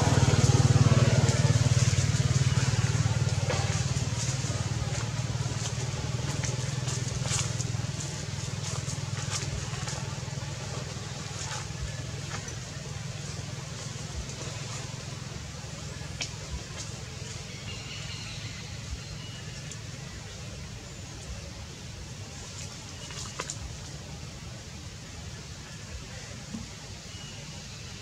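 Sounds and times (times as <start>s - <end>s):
motor engine humming: 0.0s - 24.2s.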